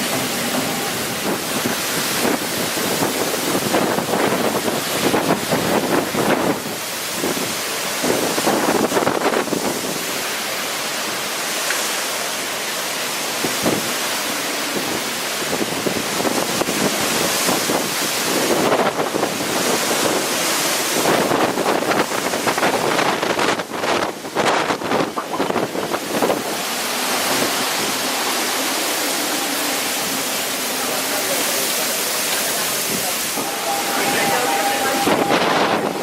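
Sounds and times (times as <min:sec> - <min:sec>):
wind gusting on microphone: 0:00.0 - 0:10.2, 0:13.4 - 0:36.0
driving rain: 0:00.0 - 0:36.0.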